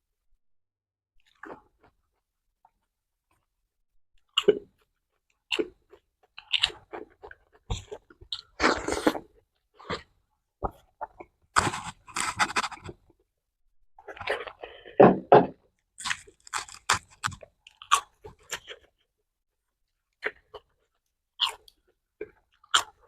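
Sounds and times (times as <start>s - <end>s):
person chewing and crunching food: 1.2s - 3.5s, 4.2s - 13.3s, 14.0s - 23.0s.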